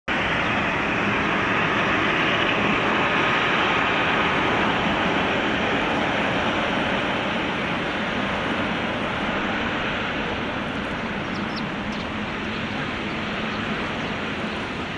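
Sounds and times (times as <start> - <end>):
jet engines rushing with whine: 0.1 - 14.9.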